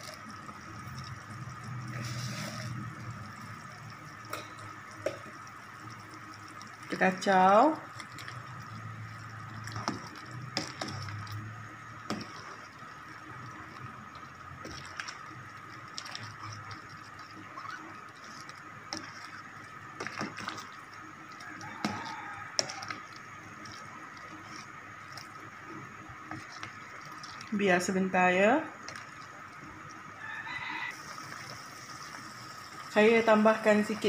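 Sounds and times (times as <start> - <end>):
soup sloshing in pot: 0.0 - 27.6.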